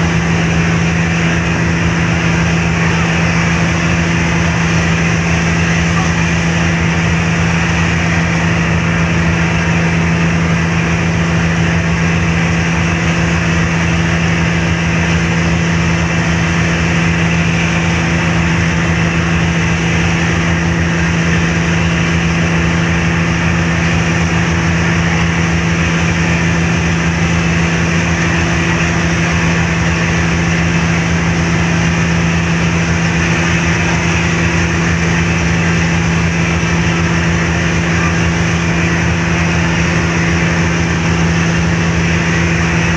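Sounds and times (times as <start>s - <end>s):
rushing wind and water: 0.0s - 42.9s
ship engines humming: 0.0s - 42.9s.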